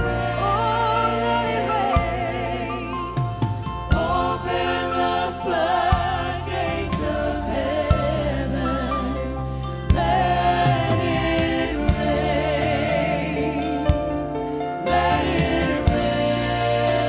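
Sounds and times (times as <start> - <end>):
live band with drums: 0.0 - 8.9, 9.9 - 17.0
backing vocalists: 0.0 - 17.0.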